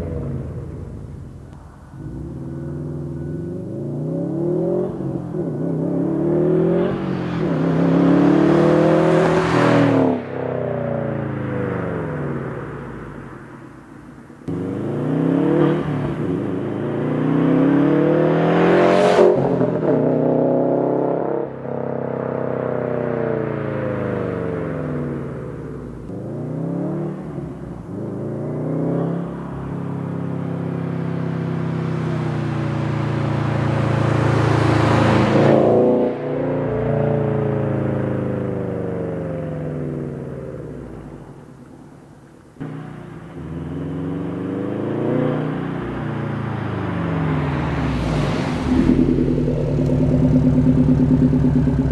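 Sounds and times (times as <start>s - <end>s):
car engine revving: 0.0s - 13.4s, 14.4s - 41.8s, 42.4s - 51.9s.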